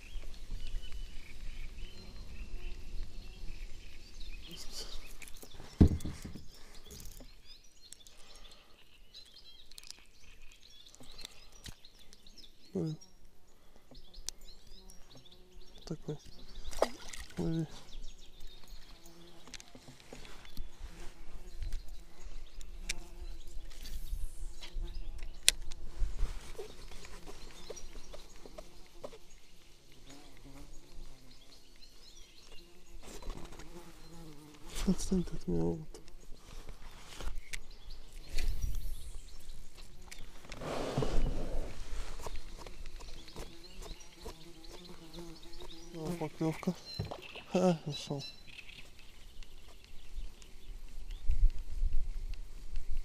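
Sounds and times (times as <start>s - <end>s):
birds chirping: 0.0s - 51.5s.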